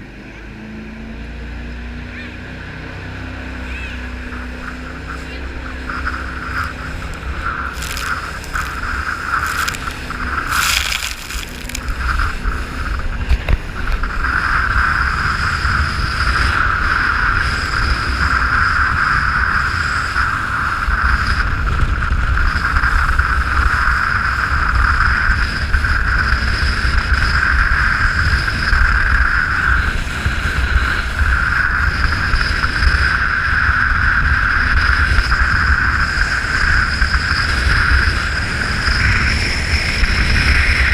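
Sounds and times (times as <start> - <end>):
jet boat engine whine: 0.0 - 40.9
wind rumble on microphone: 1.5 - 40.9.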